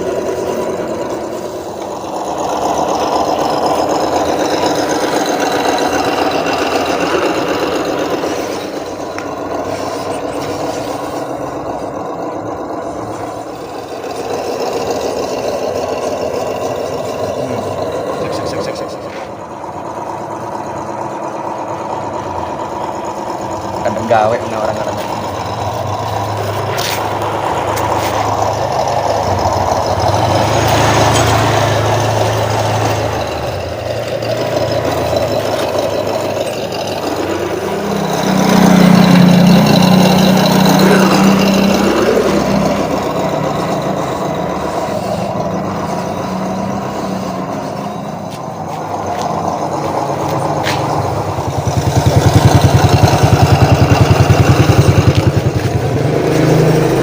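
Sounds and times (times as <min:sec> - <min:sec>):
electric motors whining: 0:00.0 - 0:57.0.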